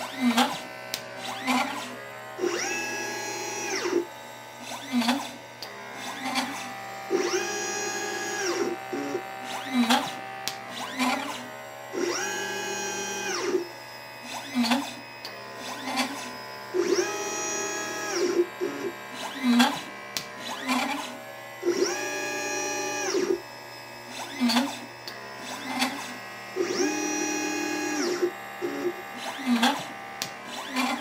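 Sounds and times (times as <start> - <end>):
stepper motors whining: 0.0 - 31.0.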